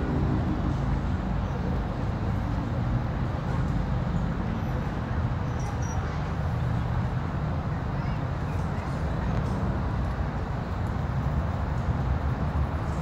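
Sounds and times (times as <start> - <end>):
outdoor background rumble and hiss: 0.0 - 13.0.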